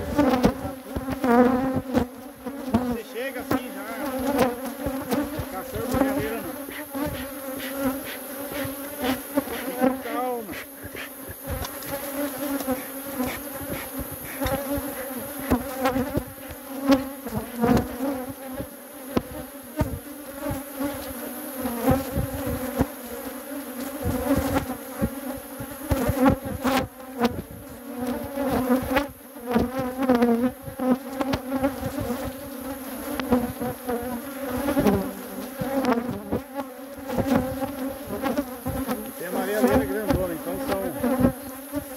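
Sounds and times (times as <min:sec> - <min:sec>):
bees buzzing in a swarm: 0:00.0 - 0:41.9
single bees zipping past: 0:00.0 - 0:41.9.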